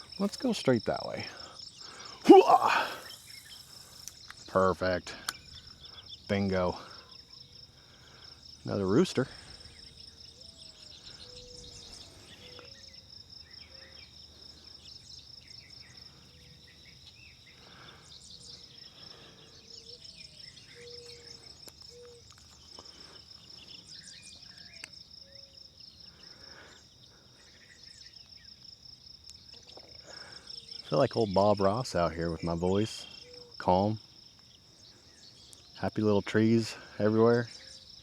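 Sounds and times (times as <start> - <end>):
crickets trilling: 0.0 - 38.0.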